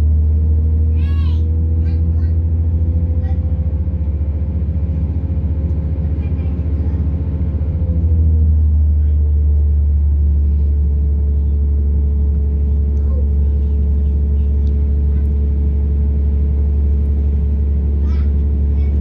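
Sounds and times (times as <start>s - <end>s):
train diesel engine drone: 0.0s - 19.0s.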